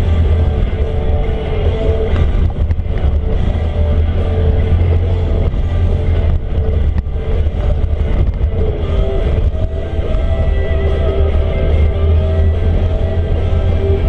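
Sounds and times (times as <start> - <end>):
atv engine running: 0.0 - 14.0
rock music: 0.0 - 14.0.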